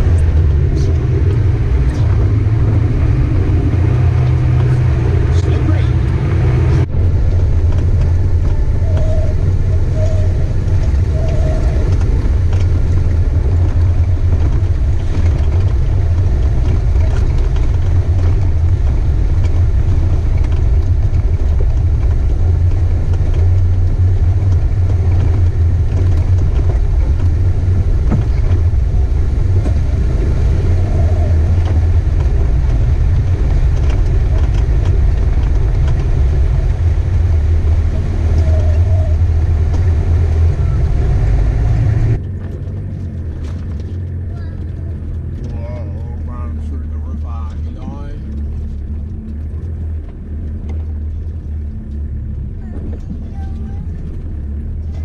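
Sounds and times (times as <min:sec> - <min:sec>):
vehicle driving on gravel: 0:00.0 - 0:55.0.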